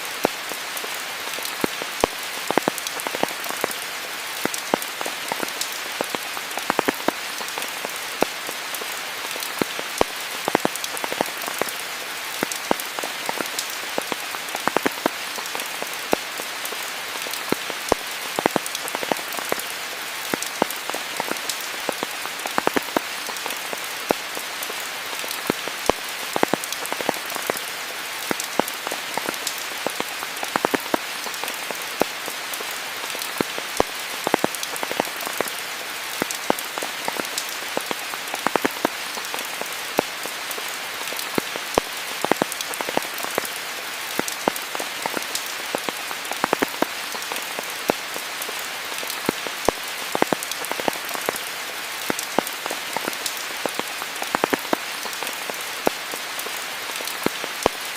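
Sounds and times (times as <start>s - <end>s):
raindrops ticking on leaves: 0.0s - 57.9s
steady rain hiss: 0.0s - 57.9s.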